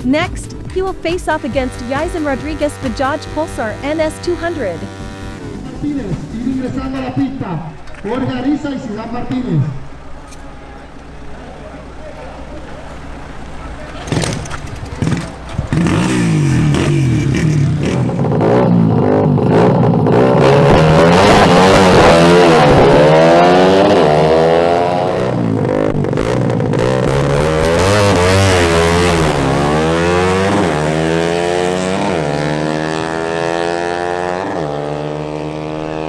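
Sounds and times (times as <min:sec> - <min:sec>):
motorcycles accelerating hard: 0:00.0 - 0:36.0.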